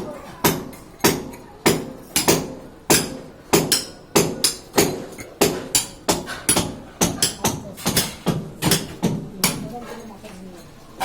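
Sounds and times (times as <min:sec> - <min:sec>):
hammer striking masonry wall: 0:00.0 - 0:09.7.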